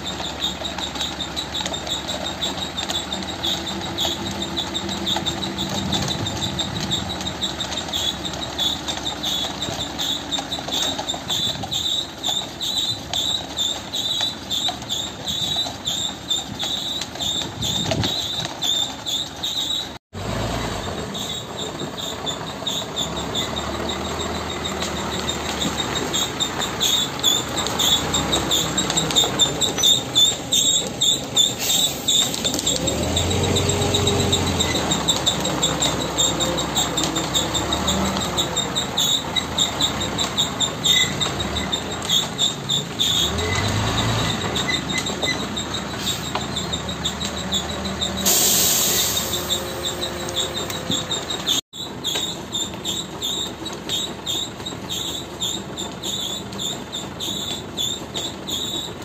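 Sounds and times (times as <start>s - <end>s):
truck diesel engine rumble: 0.0s - 59.0s.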